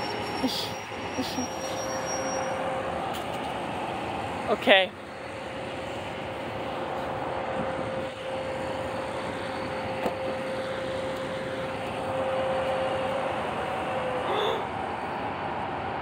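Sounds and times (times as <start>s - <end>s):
train rumble: 0.0s - 16.0s
train whine: 0.0s - 16.0s.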